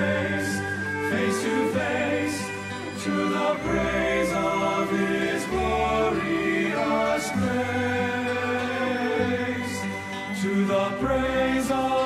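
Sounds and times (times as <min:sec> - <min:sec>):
choir singing a hymn: 0:00.0 - 0:12.0
instrumental accompaniment: 0:00.0 - 0:12.0.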